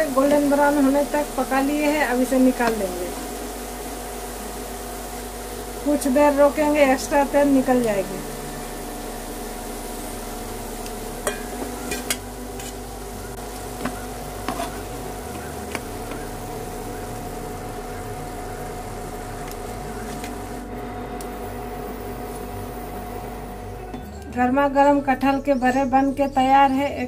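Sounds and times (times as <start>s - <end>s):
induction cooktop buzzing hum: 0.0s - 27.0s.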